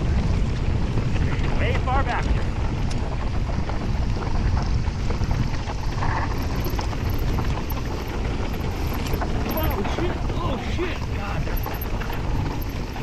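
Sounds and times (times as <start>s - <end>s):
bike clicks and rattles: 0.0s - 13.0s
bike tyres rumbling on dirt: 0.0s - 13.0s
wind on microphone: 0.0s - 13.0s.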